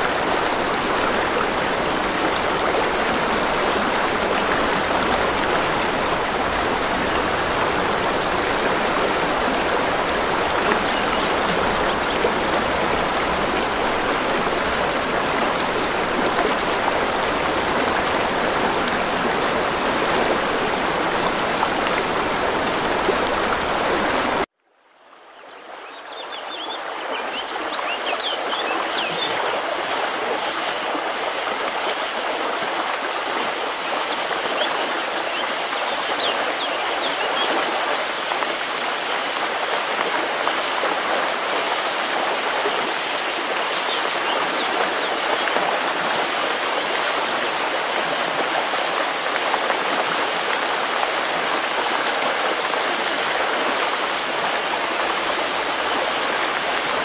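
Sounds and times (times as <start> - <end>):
river water rushing: 0.0 - 24.5, 26.4 - 57.0.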